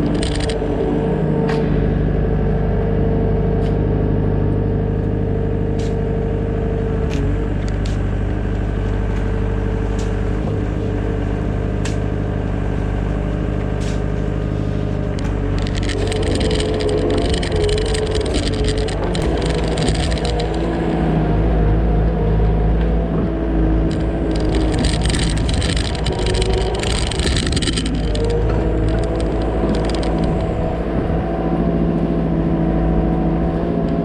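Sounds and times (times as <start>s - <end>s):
digging machine engine running: 0.0s - 34.0s.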